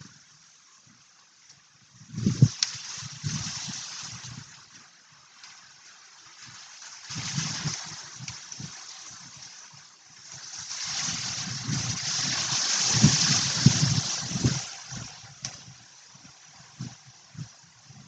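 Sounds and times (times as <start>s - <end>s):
wind buffeting microphone: 1.8s - 4.9s, 6.5s - 18.0s.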